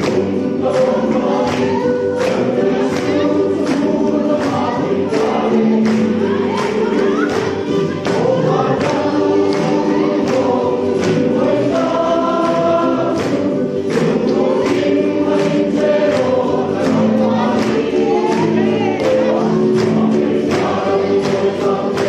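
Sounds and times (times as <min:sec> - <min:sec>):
men's choir singing a hymn: 0:00.0 - 0:22.0.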